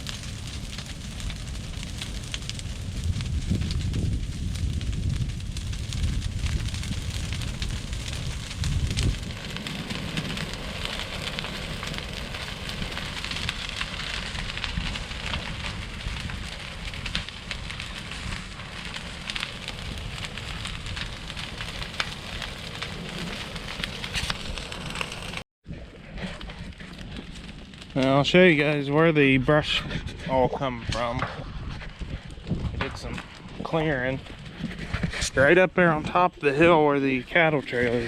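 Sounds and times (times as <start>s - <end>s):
wind rumble on microphone: 0.0s - 24.9s, 29.3s - 38.0s
flames rushing and crackling: 0.0s - 38.0s.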